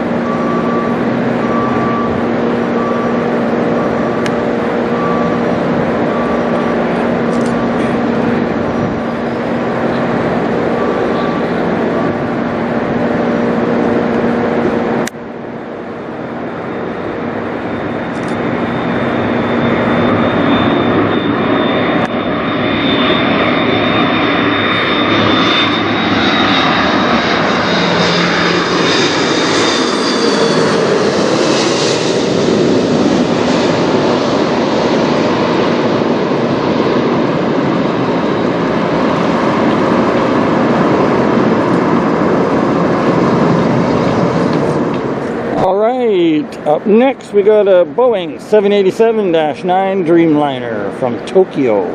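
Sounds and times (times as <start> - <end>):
high engine whine: 0.0 - 51.9
jet airliner engine noise: 0.0 - 51.9.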